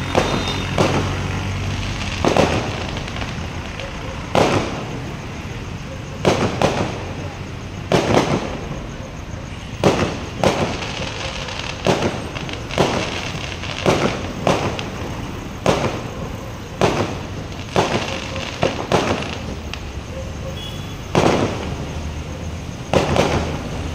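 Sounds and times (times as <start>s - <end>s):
fireworks bursting with echo: 0.0s - 23.9s.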